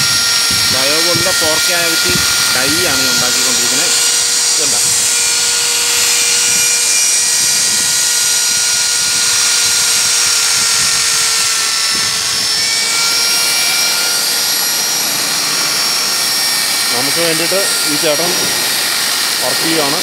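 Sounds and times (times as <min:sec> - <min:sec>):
die grinder high whine: 0:00.0 - 0:20.0.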